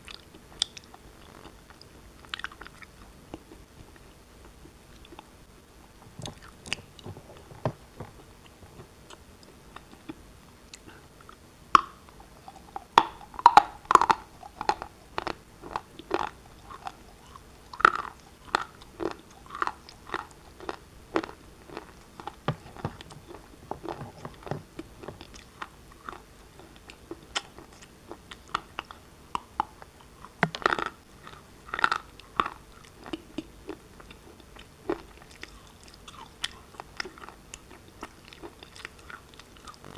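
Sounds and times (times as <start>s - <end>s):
crunching and chewing shale: 0.0s - 5.3s, 6.1s - 39.9s.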